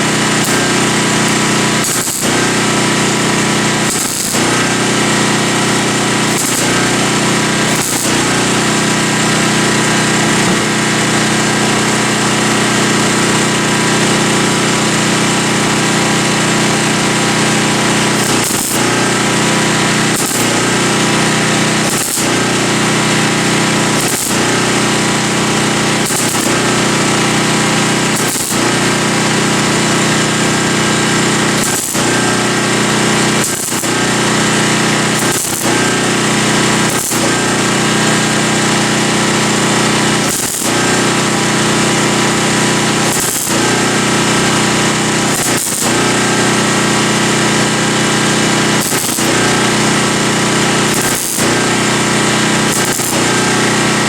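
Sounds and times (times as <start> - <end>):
welder buzzing crackle: 0.0 - 54.0.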